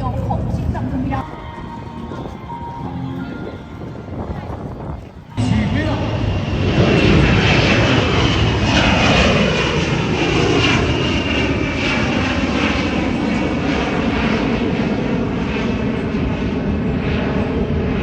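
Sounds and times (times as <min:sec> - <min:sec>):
aircraft engines passing low: 0:00.0 - 0:18.0.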